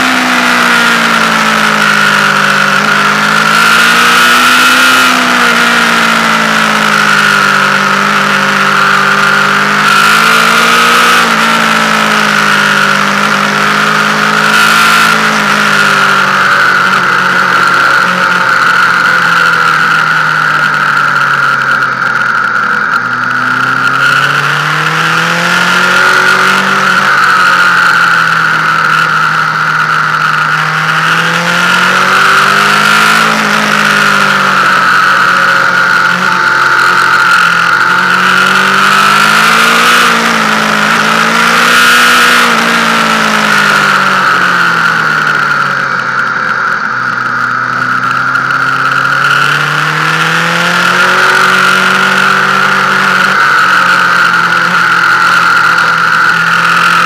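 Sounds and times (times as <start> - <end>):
motorcycle engine revving: 0.0 - 57.0
steady high whine: 0.0 - 57.0.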